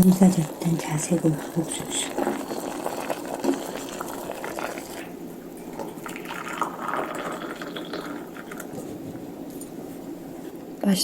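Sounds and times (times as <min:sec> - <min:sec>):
liquid bubbling in pot: 0:00.0 - 0:09.5.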